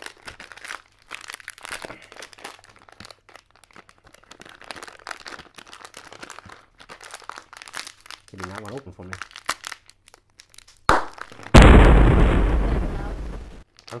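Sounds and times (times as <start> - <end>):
plastic packet crinkling: 0.0 - 11.6, 13.6 - 14.0.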